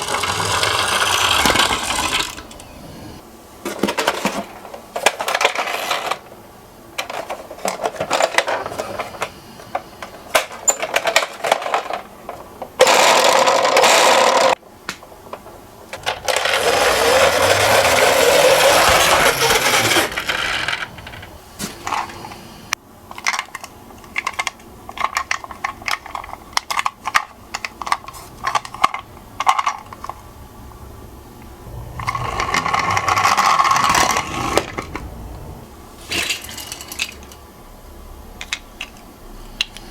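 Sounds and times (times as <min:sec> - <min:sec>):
toy cars clicking and clattering: 0:00.0 - 0:02.7, 0:03.7 - 0:06.3, 0:07.0 - 0:14.6, 0:15.9 - 0:22.3, 0:23.1 - 0:30.2, 0:32.0 - 0:35.0, 0:36.1 - 0:37.4, 0:38.4 - 0:39.9
toy cars rolling rumble: 0:00.0 - 0:06.4, 0:07.0 - 0:14.6, 0:15.4 - 0:22.5, 0:23.1 - 0:37.4.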